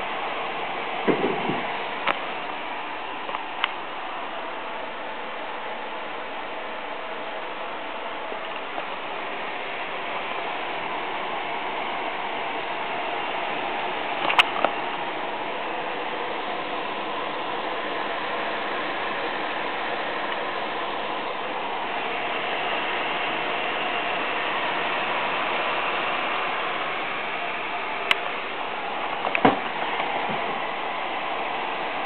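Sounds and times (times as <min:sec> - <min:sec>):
computer cooling fans running: 0:00.0 - 0:32.0.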